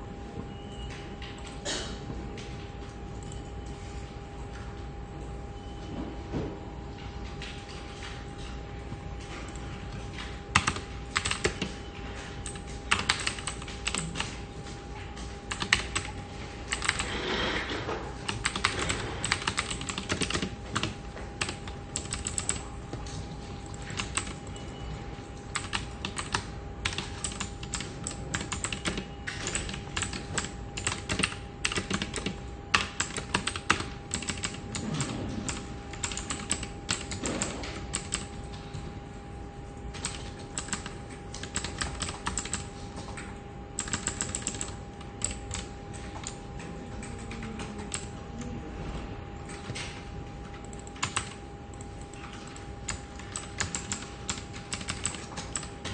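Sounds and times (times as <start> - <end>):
faint hum: 0.0 - 55.9.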